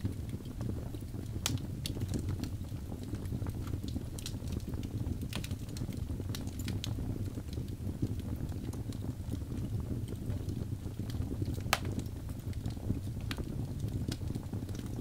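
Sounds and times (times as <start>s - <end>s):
fire crackling and popping: 0.0s - 15.0s
flames rumbling: 0.0s - 15.0s.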